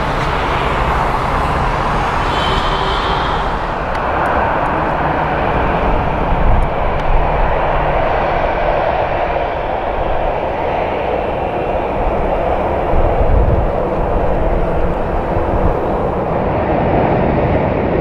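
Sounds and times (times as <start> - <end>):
faint high whine: 0.0 - 16.3
jet engines rumbling: 0.0 - 18.0.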